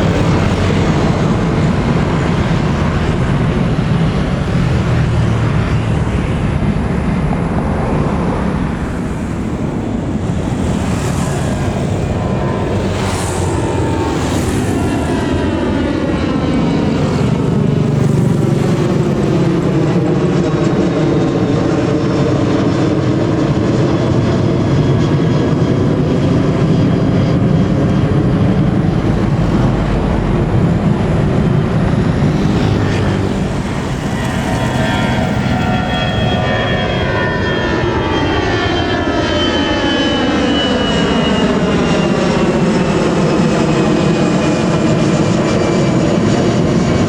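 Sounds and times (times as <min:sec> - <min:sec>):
airliner engines passing overhead: 0:00.0 - 0:47.0.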